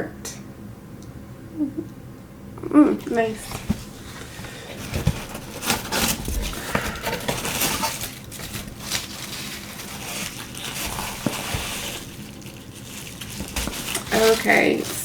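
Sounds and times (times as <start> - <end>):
packaging crinkling and rustling: 3.0 - 15.0.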